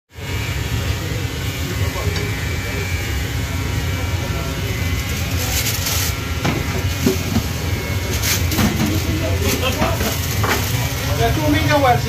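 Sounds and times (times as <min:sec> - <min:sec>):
low rumble of restaurant kitchen: 0:00.2 - 0:12.0.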